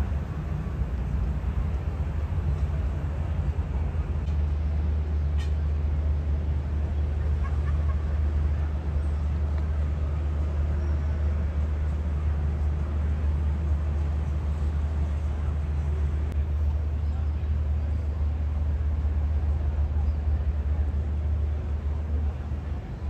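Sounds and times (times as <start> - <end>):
boat engines rumbling: 0.0 - 23.0
propellers churning water: 0.0 - 23.0.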